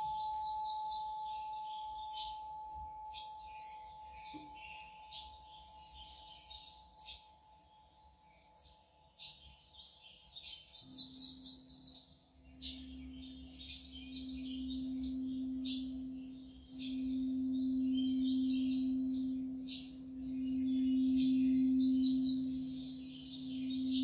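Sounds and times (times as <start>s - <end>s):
birds chirping: 0.0s - 24.0s
singing bowl tones: 0.0s - 24.0s.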